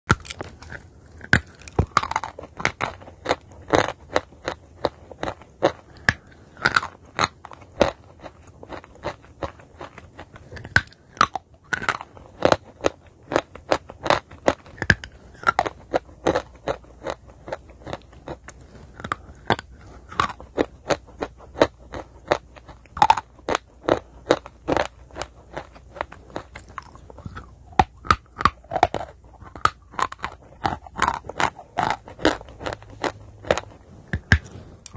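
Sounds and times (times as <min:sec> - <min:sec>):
person crunching chalk: 0:00.1 - 0:34.9.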